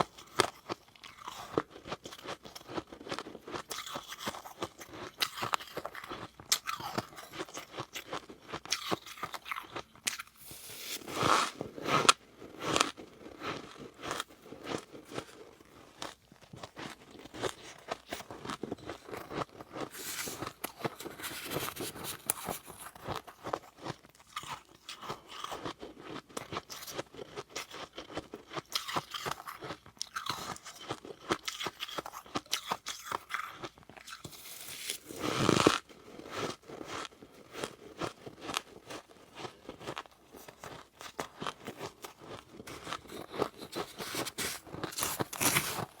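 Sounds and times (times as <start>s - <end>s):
crunching and chewing frost: 0.0s - 46.0s.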